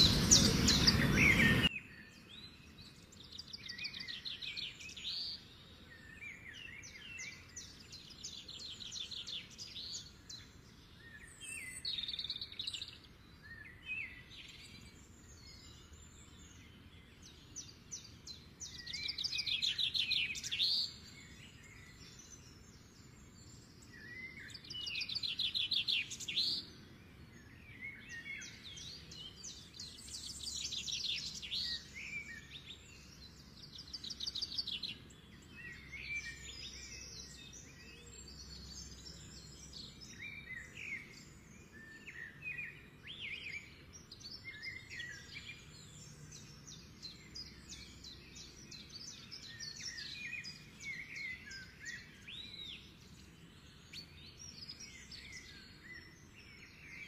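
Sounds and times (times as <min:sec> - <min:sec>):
songbirds trilling: 0:00.0 - 0:57.0.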